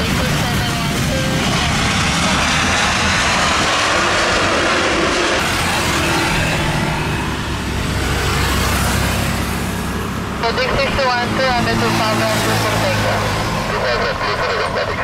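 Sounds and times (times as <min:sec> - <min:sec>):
jet engines droning: 0:00.0 - 0:15.0
jet roaring on runway: 0:00.0 - 0:15.0.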